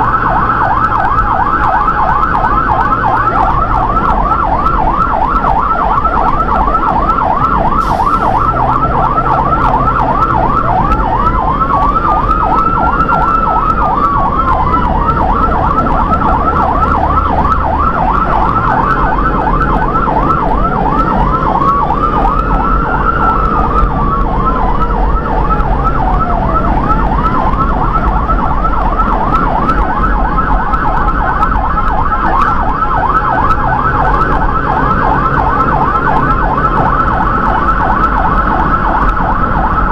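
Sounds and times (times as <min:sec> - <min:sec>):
vehicle and road noise: 0:00.0 - 0:39.9
wailing siren: 0:00.0 - 0:39.9
yelping electronic siren: 0:00.0 - 0:39.9.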